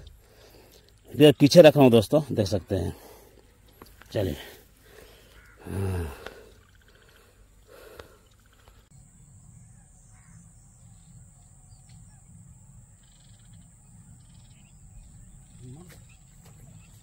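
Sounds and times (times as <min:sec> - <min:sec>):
bird calling: 0:02.3 - 0:08.9, 0:09.6 - 0:17.0.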